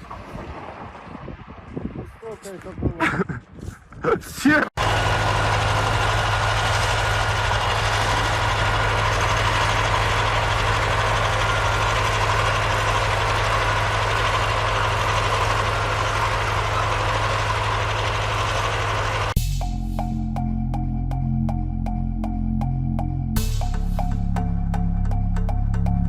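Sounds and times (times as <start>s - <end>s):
heavy vehicle engine humming: 4.8s - 26.0s.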